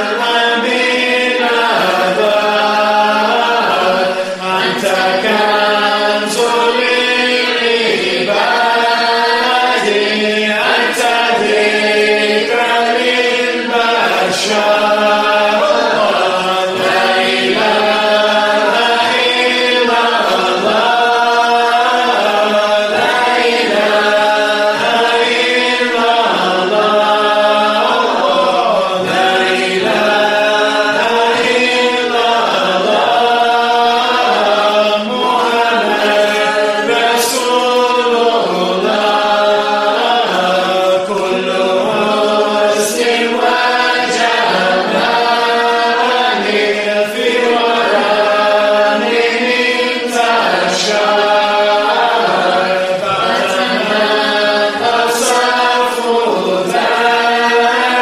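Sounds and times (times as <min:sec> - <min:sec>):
group chanting: 0:00.0 - 0:58.0.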